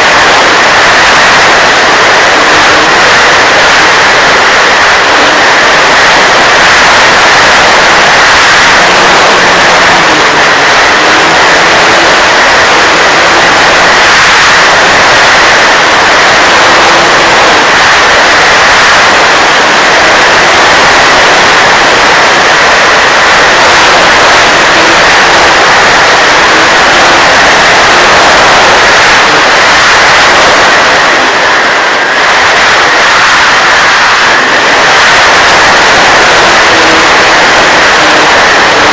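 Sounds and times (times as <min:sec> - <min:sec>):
rush of air noise: 0:00.0 - 0:38.9.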